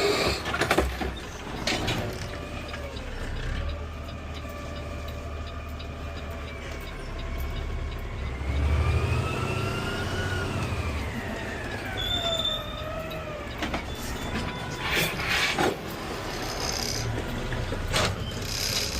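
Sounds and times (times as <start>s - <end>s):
truck engine rumble: 0.0s - 18.9s.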